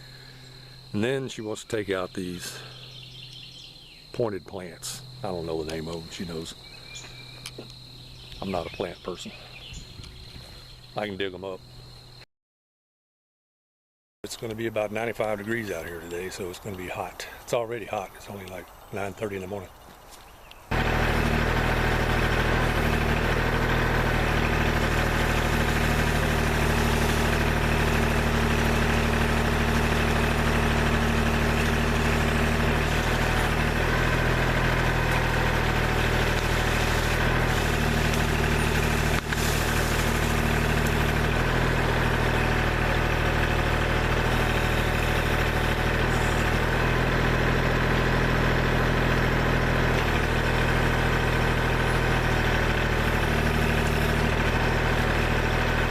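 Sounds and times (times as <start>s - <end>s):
diesel engine running steadily: 0.0s - 10.9s, 20.7s - 55.9s.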